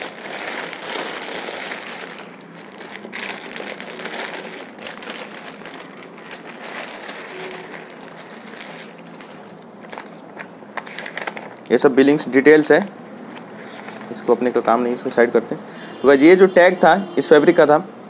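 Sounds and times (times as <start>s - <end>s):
plastic packaging crinkling: 0.0s - 15.5s.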